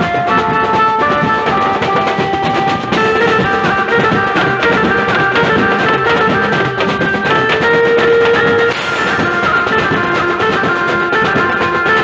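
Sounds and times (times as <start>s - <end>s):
large drums beaten: 0.0s - 12.0s
melody of held notes: 0.0s - 12.0s.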